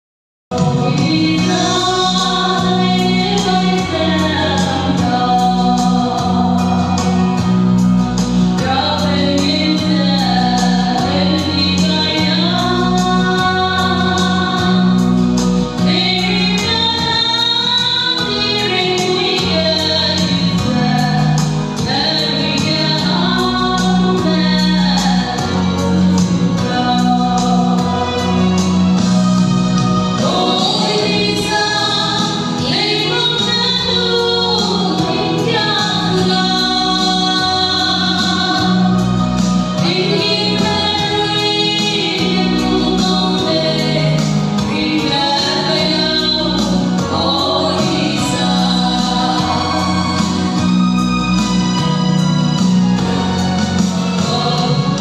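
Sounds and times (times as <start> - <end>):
instrumental accompaniment with bass: 0.5 - 55.0
women singing gospel duet: 0.6 - 55.0.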